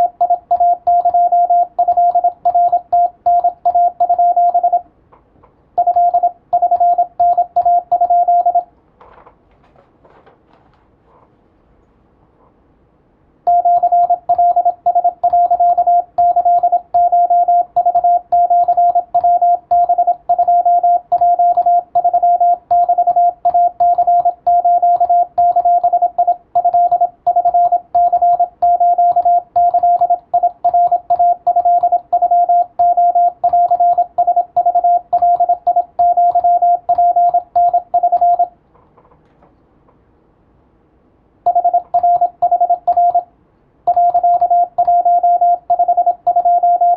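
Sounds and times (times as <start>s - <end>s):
morse code beeps: 0.0s - 4.8s, 5.8s - 8.7s, 13.5s - 38.5s, 41.5s - 43.3s, 43.9s - 46.9s.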